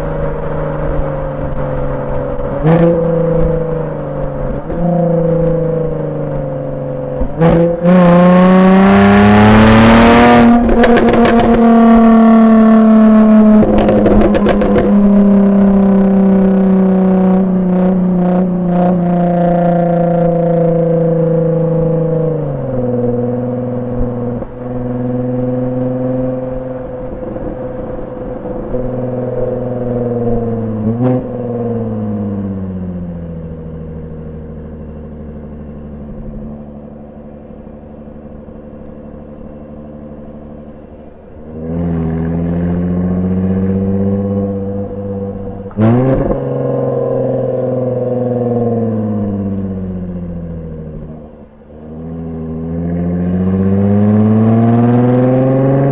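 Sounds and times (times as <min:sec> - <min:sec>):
exhaust crack: 0:00.0 - 0:19.0, 0:21.6 - 0:55.9
car engine revving: 0:00.0 - 0:55.9
exhaust crackling on overrun: 0:00.0 - 0:55.9.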